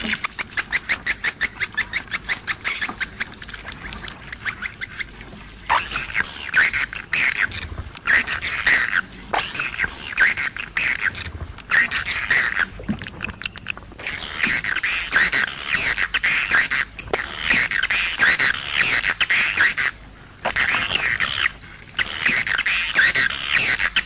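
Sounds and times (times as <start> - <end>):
swiftlets twittering: 0.0 - 19.8.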